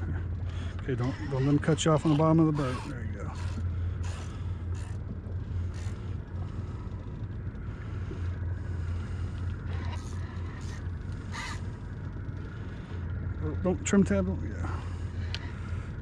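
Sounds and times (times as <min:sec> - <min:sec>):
boat engine idling: 0:00.0 - 0:16.0.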